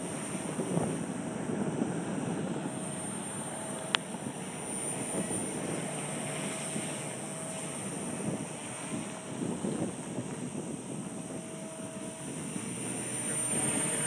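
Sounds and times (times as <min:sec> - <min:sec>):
helicopter motor and rotor whine: 0:00.0 - 0:14.0
wind rumbling on microphone: 0:00.0 - 0:14.0.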